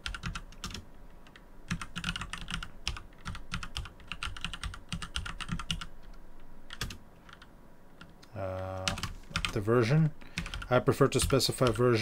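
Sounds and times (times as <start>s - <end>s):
computer keyboard typing: 0.0s - 9.6s, 10.3s - 12.0s.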